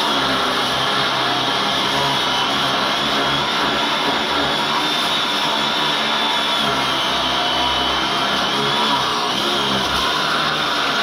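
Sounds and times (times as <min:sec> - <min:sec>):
power grinder cutting steel: 0:00.0 - 0:11.0.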